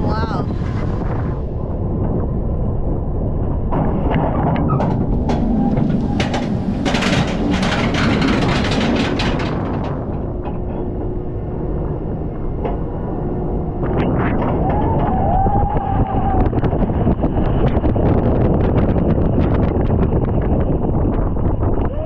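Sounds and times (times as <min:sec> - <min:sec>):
low rumble of coaster train: 0:00.0 - 0:22.0
wind buffeting microphone: 0:00.0 - 0:22.0
roller coaster clattering clicks: 0:01.9 - 0:22.0.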